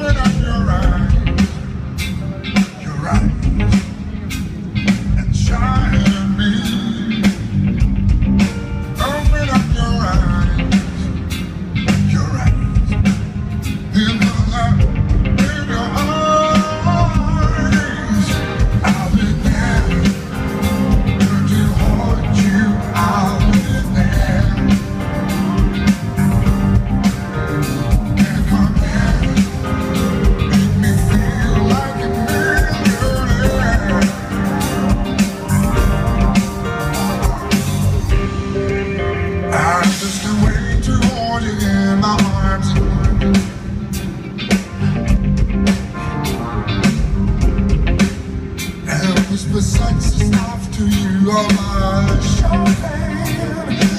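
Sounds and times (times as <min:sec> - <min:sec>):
man singing: 0:00.0 - 0:01.8, 0:02.5 - 0:04.1, 0:05.0 - 0:07.8, 0:08.9 - 0:11.2, 0:11.9 - 0:13.2, 0:13.9 - 0:26.7, 0:27.6 - 0:43.8, 0:48.8 - 0:53.9
live band with guitar bass drums: 0:00.0 - 0:53.9.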